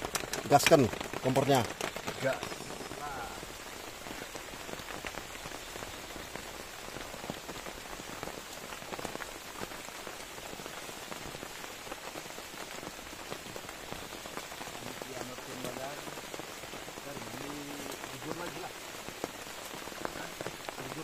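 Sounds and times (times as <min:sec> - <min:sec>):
heavy rain: 0:00.0 - 0:21.0
raindrops ticking close by: 0:00.0 - 0:21.0.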